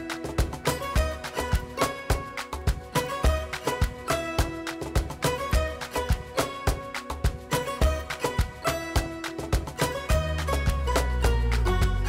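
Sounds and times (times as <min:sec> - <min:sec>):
background music with quick beat: 0:00.0 - 0:12.0.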